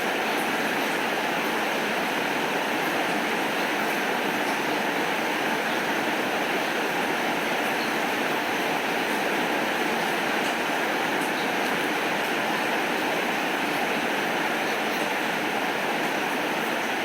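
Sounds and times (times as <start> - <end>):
heavy rainfall: 0.0 - 17.0.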